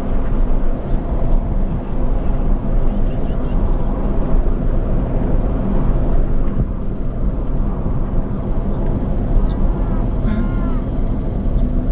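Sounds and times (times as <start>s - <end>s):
road and tyre noise in car cabin: 0.0s - 11.9s.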